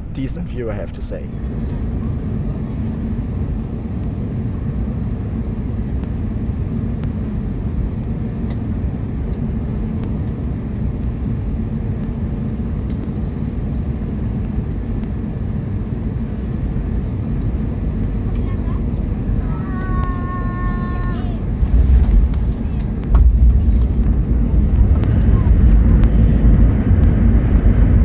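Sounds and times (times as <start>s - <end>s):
airplane cabin engine roar: 0.0s - 28.0s.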